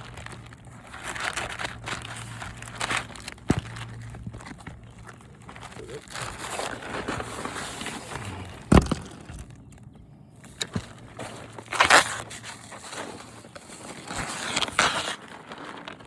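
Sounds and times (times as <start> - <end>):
plastic tarp rustling and crinkling: 0.0 - 9.6, 10.4 - 16.0.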